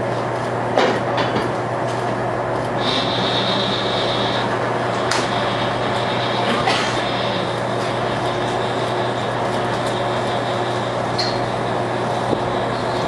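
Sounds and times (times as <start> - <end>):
machinery drone: 2.2 - 13.0.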